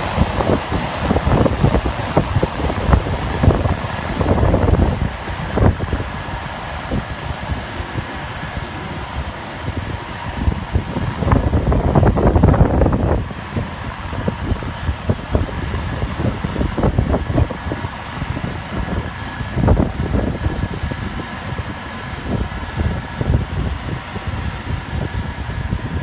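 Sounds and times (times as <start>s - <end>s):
rushing water: 0.0s - 26.0s
wind buffeting microphone: 0.0s - 26.0s.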